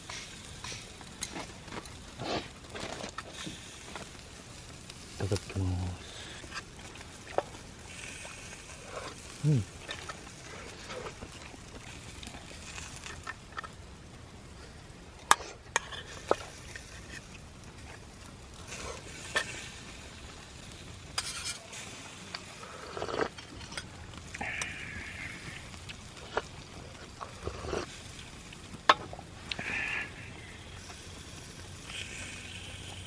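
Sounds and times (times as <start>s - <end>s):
food sizzling on a grill: 0.0s - 33.0s.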